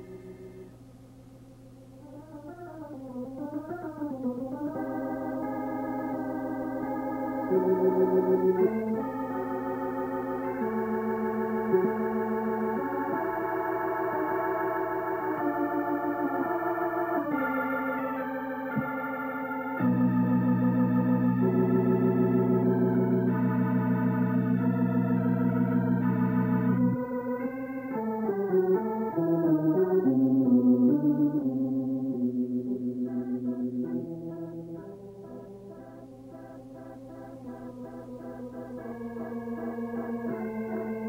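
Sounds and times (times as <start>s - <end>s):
organ chords: 0.0s - 41.0s.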